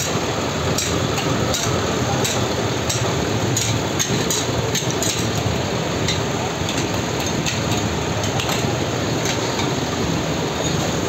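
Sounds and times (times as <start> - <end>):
steady loud background din: 0.0 - 11.0.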